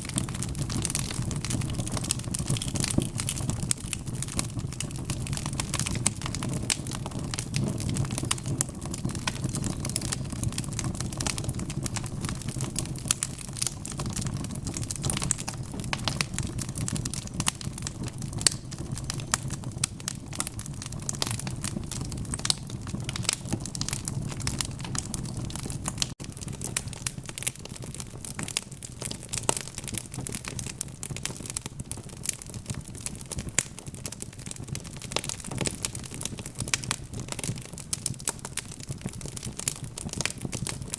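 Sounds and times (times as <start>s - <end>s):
burning wood rumbling: 0.0s - 40.9s
log fire crackling: 0.0s - 40.9s.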